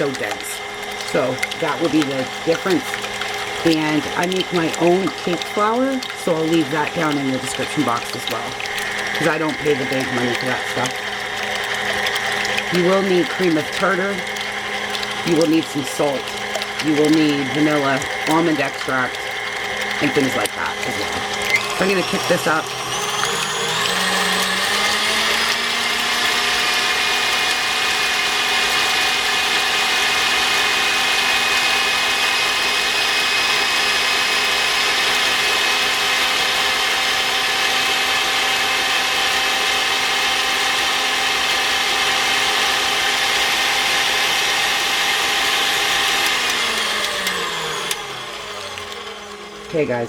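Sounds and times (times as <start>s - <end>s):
stand mixer whisking: 0.0s - 50.0s.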